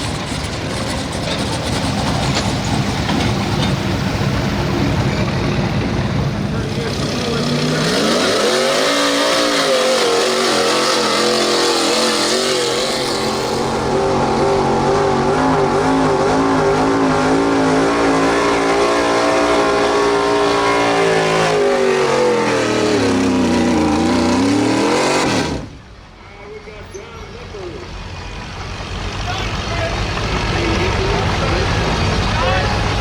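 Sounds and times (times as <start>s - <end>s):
truck engine at full throttle: 0.0s - 26.1s, 27.6s - 33.0s.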